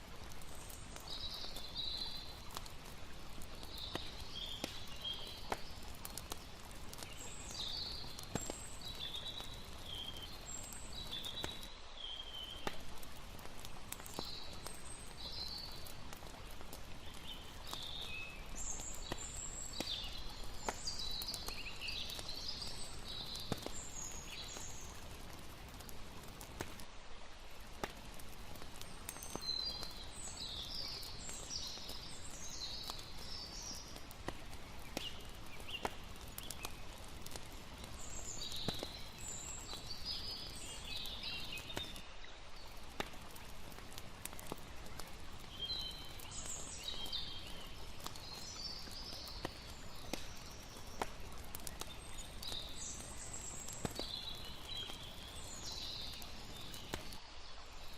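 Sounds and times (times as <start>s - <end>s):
campfire crackling: 0.0s - 57.9s
water flowing: 0.0s - 57.9s.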